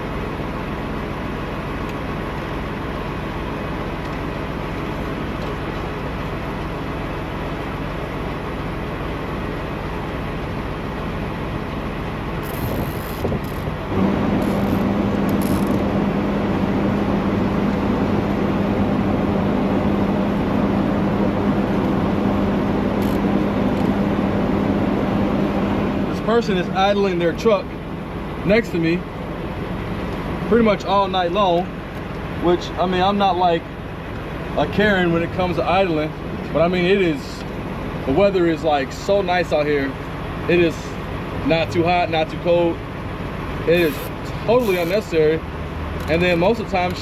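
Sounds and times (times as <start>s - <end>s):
diesel truck engine idling: 0.0s - 47.0s
strong steady hum: 0.0s - 47.0s.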